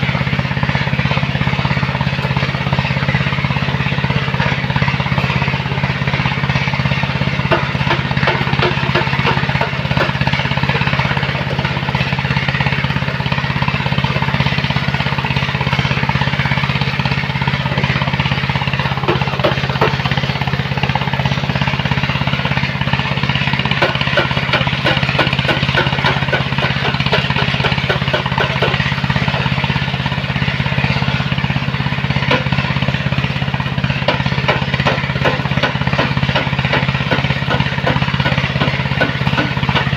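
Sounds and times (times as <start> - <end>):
machine engine droning: 0.0 - 39.9.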